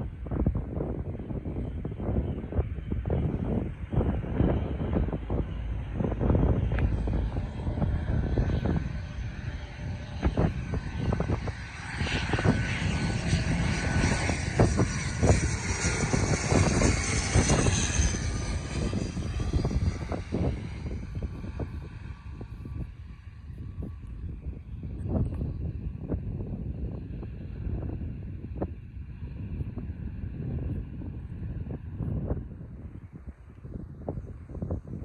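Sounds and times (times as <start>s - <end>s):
turboprop aircraft passing overhead: 0.0s - 35.0s
wind buffeting microphone: 0.0s - 35.0s.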